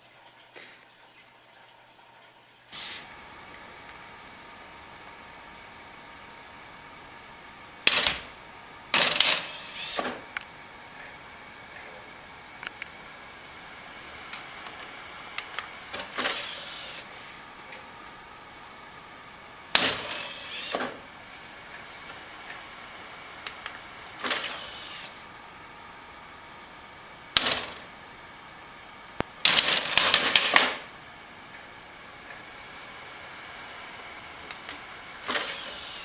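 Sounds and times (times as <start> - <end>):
disc drive tray whirring and clicking: 2.7 - 36.0.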